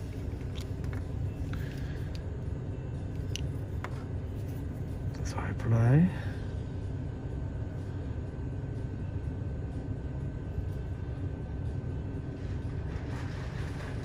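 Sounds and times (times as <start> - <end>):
faint high whine: 0.0 - 14.0
low background rumble: 0.0 - 14.0.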